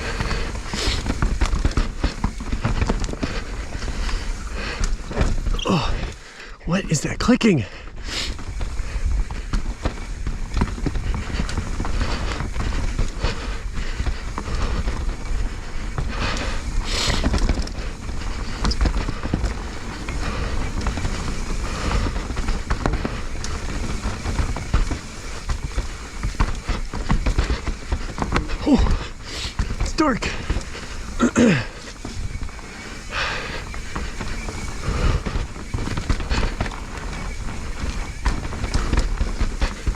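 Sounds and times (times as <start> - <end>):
clicking from bike: 0.0 - 6.5, 7.8 - 39.9
bike rattling over bumps: 0.0 - 6.6, 7.2 - 39.9
tyres over dirt and roots: 0.0 - 39.9.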